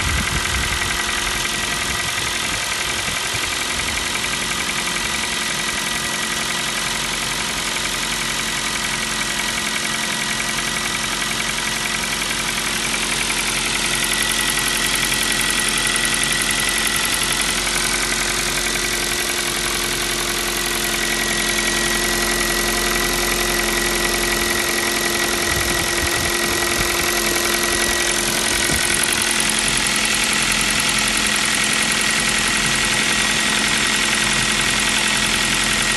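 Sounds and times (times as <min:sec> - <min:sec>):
engine idling with rapid knock: 0:00.0 - 0:35.9.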